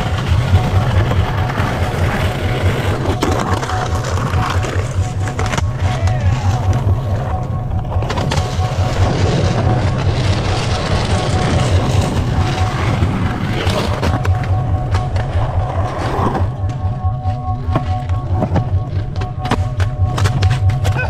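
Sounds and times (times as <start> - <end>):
skateboard clacks: 0.0 - 16.8, 17.5 - 21.0
background music: 0.0 - 21.0
skateboard wheels rolling on concrete: 0.0 - 21.0.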